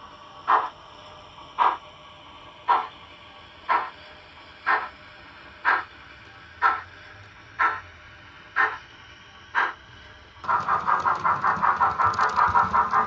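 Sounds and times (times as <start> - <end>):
model train steam chuffs: 0.0 - 13.0.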